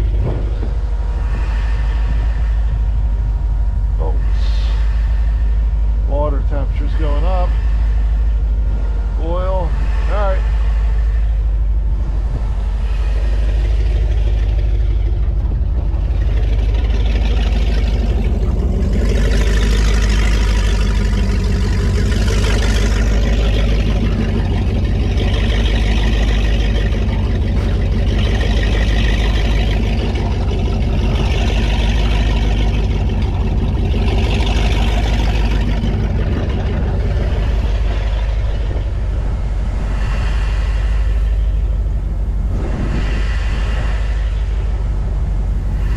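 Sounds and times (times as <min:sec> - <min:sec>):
boat engine deep rumble: 0:00.0 - 0:45.9.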